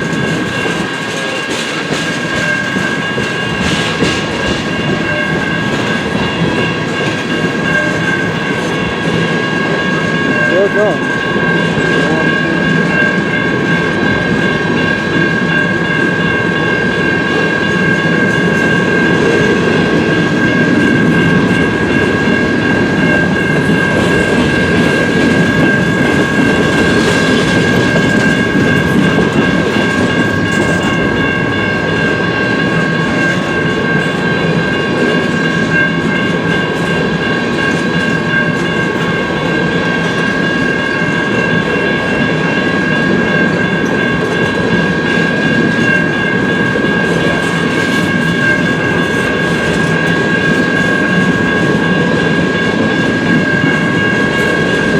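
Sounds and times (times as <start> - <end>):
freight train wheels rumbling: 0.0 - 54.9
high ringing tone: 0.0 - 54.9.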